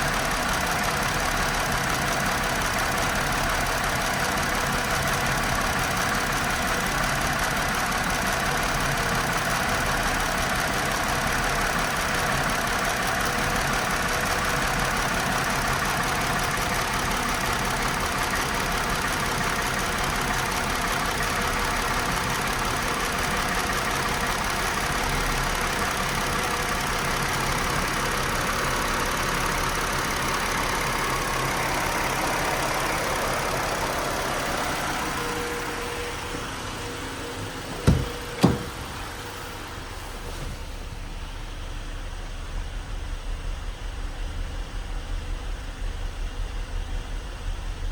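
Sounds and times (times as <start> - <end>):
car engine idling roughly: 0.0 - 47.9.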